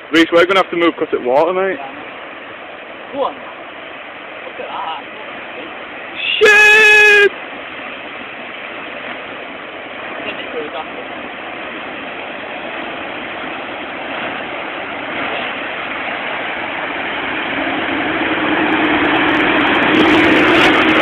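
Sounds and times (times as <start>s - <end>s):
water spraying from tyres: 0.0s - 21.0s
lorry engine humming: 1.9s - 21.0s.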